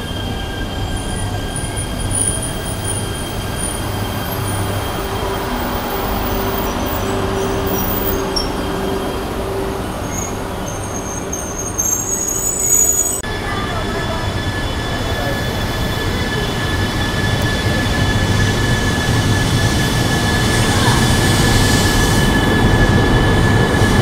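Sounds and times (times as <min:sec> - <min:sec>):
train high whine: 0:00.0 - 0:24.0
train low rumble: 0:00.0 - 0:24.0
train running gear squealing: 0:00.0 - 0:24.0.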